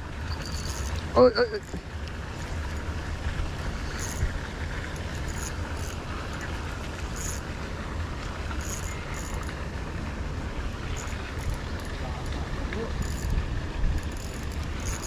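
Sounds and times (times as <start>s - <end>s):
wind rumbling on microphone: 0.0s - 15.0s
fishing reel ticking: 0.2s - 3.0s, 3.6s - 9.6s, 10.9s - 15.0s.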